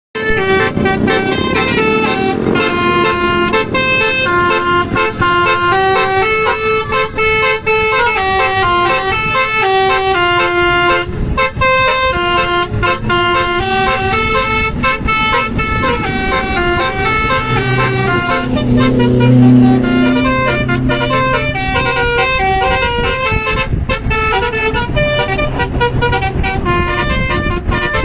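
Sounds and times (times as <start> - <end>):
bus air horn playing a tune: 0.2 - 28.0.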